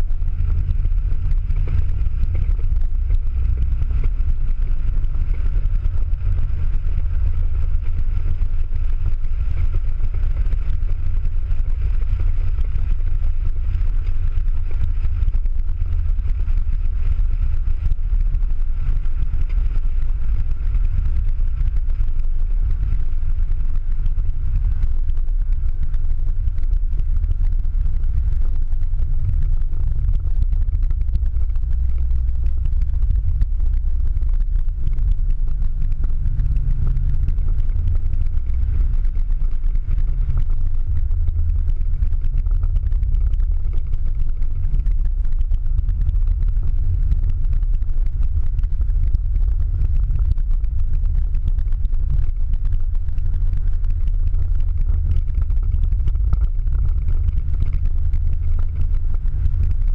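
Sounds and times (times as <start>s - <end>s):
car engine droning: 0.0s - 59.9s
tyre and road noise: 0.0s - 59.9s.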